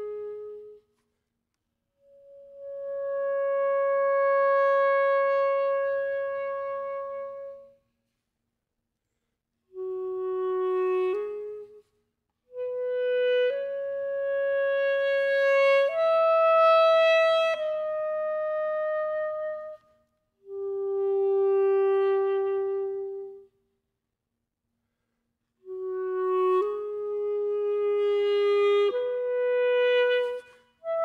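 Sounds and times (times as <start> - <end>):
solo clarinet playing: 0.0 - 1.0, 2.0 - 7.8, 9.7 - 23.6, 25.6 - 31.0.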